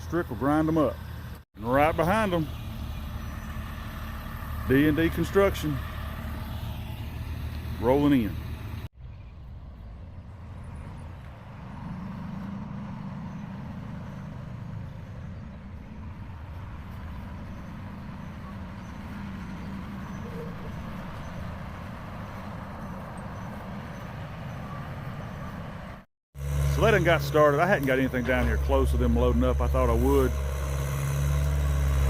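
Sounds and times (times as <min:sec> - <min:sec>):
heavy equipment engine rumbling: 0:00.0 - 0:08.9, 0:10.4 - 0:32.0.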